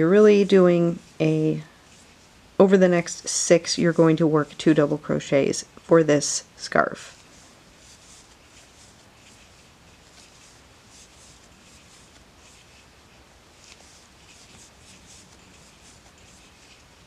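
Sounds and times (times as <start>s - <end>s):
yarn rustling through crochet hook: 0.0s - 17.0s.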